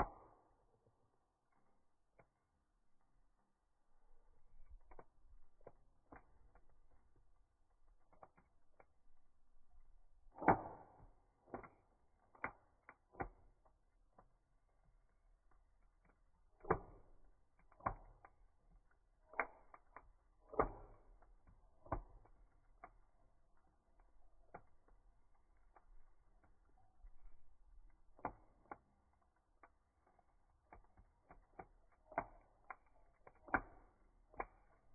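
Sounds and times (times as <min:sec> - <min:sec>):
campfire crackling: 0:01.4 - 0:34.9
sharp pops and snaps: 0:04.5 - 0:09.0, 0:10.2 - 0:14.4, 0:15.5 - 0:34.9.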